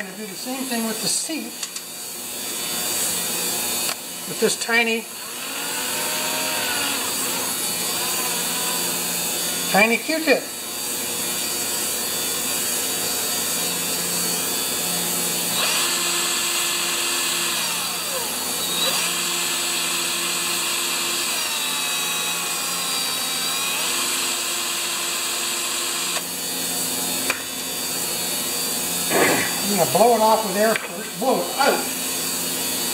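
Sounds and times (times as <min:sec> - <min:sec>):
cordless drill running: 0:00.0 - 0:32.9.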